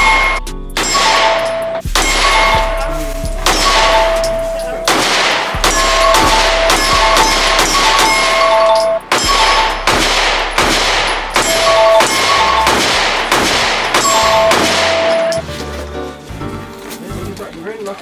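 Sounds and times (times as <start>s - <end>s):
bell-like music with beat: 0.0s - 4.9s, 5.5s - 16.9s.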